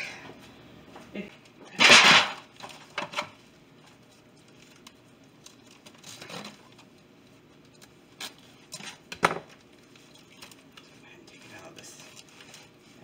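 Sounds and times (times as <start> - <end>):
plastic crinkling and rustling: 2.4 - 13.0.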